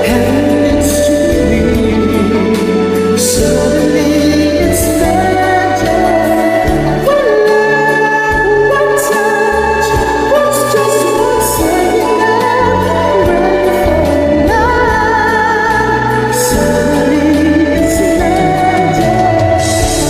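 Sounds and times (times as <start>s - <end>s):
instrumental backing: 0.0s - 20.0s
person singing long notes: 0.0s - 20.0s.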